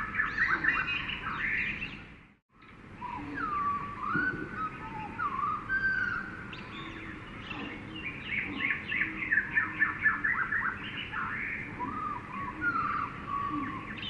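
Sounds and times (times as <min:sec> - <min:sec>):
birds whistling: 0:00.0 - 0:02.1, 0:03.0 - 0:14.0.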